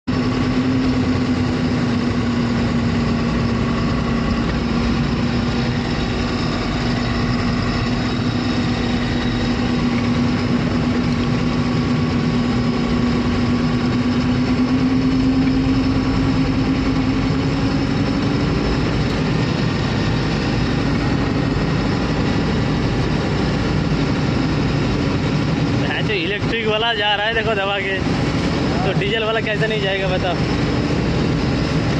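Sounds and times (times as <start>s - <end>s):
constant rushing noise: 0.0s - 31.9s
vehicle engine humming: 0.0s - 31.9s.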